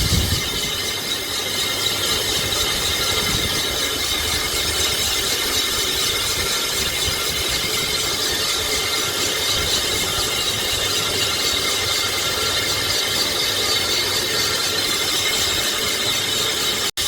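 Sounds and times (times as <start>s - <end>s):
lathe cutting metal hiss: 0.0s - 17.0s.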